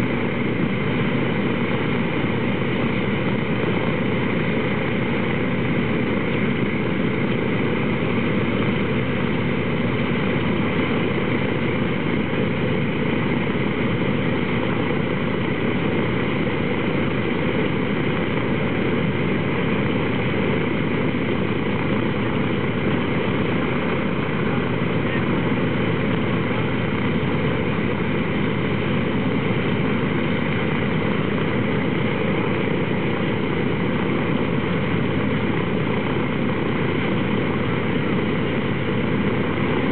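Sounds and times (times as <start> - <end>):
radial aircraft engines idling: 0.0 - 39.9.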